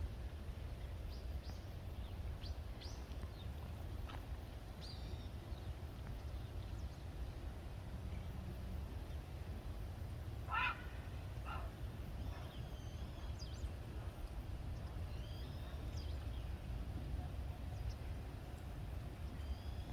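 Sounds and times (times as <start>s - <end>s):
low wind rumble: 0.0s - 19.9s.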